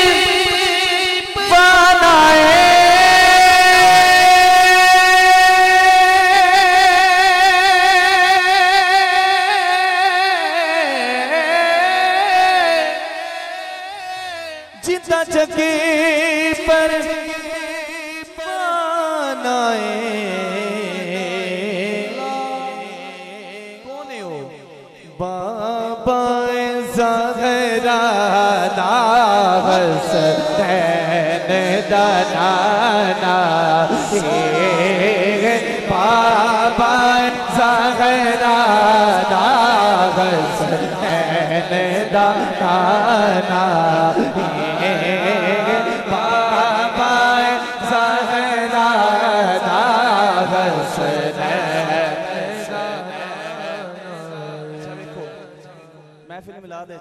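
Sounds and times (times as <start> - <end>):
man singing into microphone: 0.0 - 57.0.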